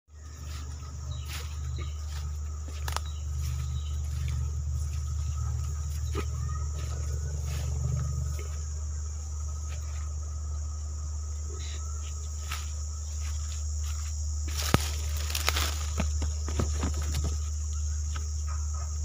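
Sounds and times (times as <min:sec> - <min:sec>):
crickets chirping: 0:00.1 - 0:19.0
steady low hum: 0:00.1 - 0:19.0.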